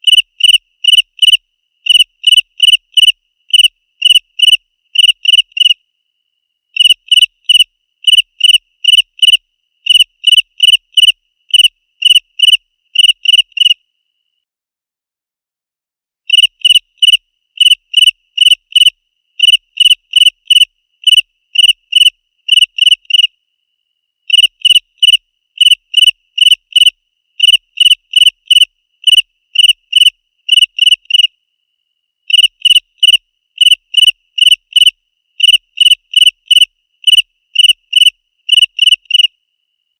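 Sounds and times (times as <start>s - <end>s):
cricket chirping: 0.0s - 14.4s, 16.3s - 39.9s.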